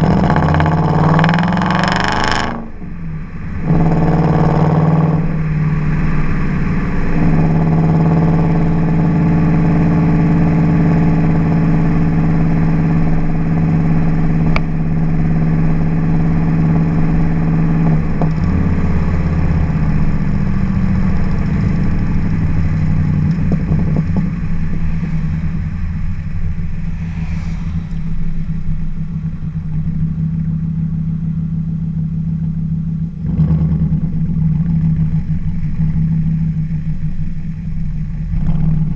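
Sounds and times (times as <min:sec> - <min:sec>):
car engine exhaust note: 0:00.0 - 0:38.9.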